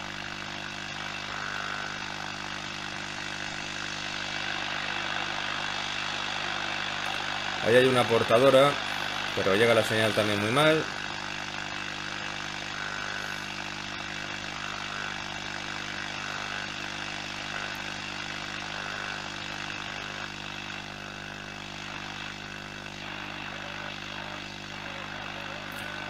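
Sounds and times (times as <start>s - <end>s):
radio loudspeaker low hum: 0.0s - 26.0s
radio static hiss: 0.0s - 26.0s.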